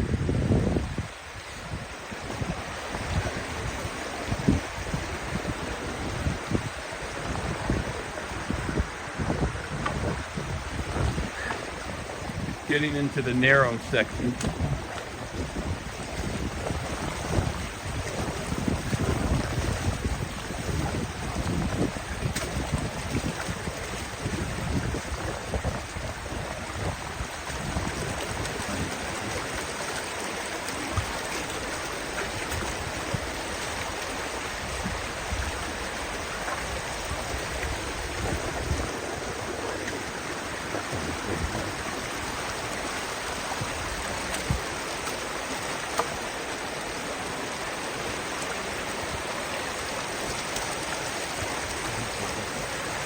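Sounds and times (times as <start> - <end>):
creek rushing: 0.0 - 53.0
wind gusts on microphone: 0.0 - 53.0.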